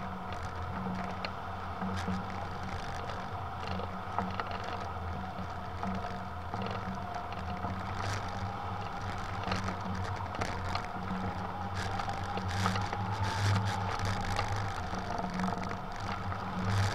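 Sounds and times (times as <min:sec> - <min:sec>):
wind rush and buffeting: 0:00.0 - 0:16.9.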